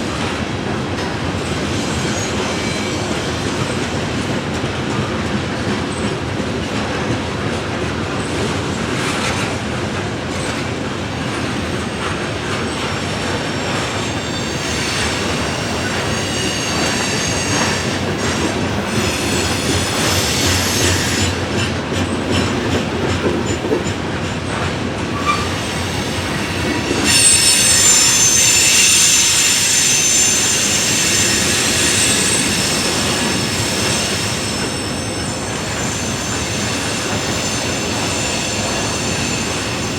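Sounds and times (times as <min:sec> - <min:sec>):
freight train cars rolling: 0:00.0 - 0:39.9
steel wheels squealing on rails: 0:00.0 - 0:39.9.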